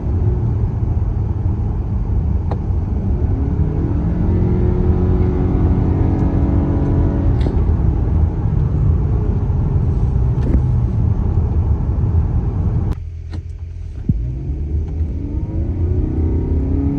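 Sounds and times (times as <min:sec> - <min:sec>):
car road and engine rumble: 0:00.0 - 0:16.9.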